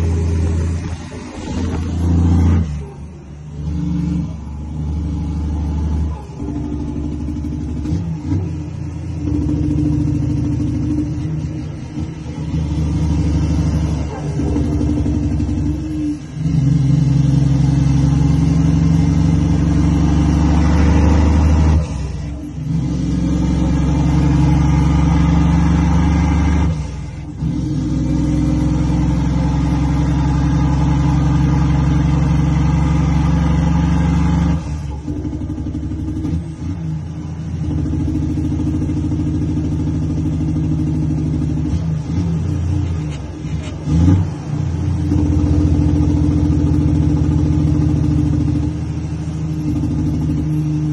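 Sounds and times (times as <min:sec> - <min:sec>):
diesel truck engine under load: 0:00.0 - 0:50.9.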